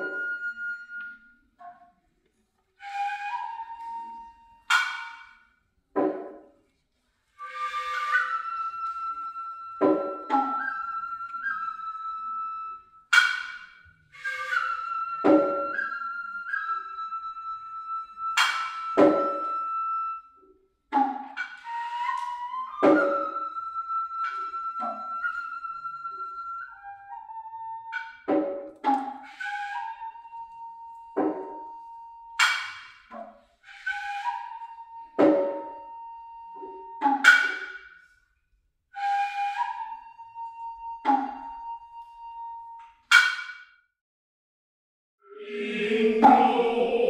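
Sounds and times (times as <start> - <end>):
high piercing bamboo flute: 0.0 - 6.3, 7.2 - 38.2, 38.9 - 43.7, 45.2 - 47.0.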